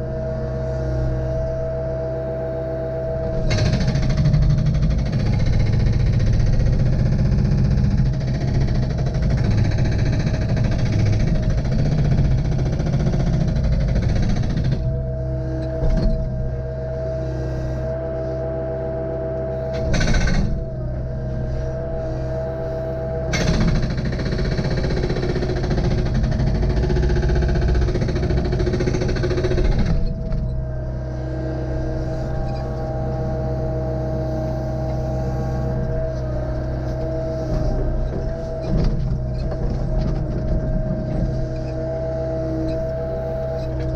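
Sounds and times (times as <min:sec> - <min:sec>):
diesel engine droning: 0:00.0 - 0:43.9
hydraulic whine: 0:00.0 - 0:43.9.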